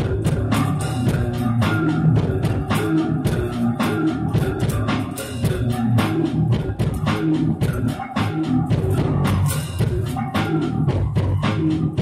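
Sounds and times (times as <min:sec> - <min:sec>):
funky electric bass line: 0:00.0 - 0:12.0
steady drum beat: 0:00.0 - 0:12.0.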